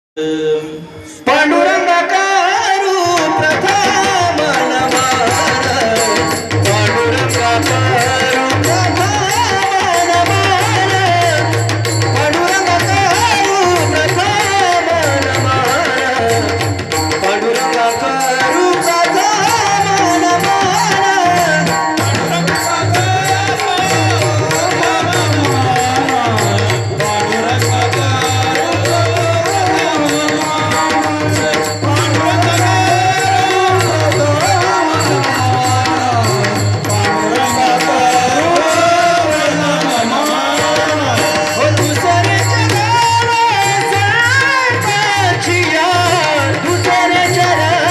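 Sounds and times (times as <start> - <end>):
devotional singing: 0.2 - 47.9
hand drum beat: 3.1 - 47.9.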